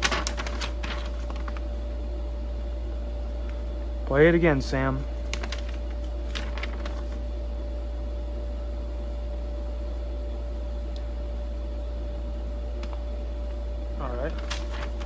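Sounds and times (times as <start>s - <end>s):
low hum: 0.0s - 15.0s
thin steady whine: 0.0s - 15.0s.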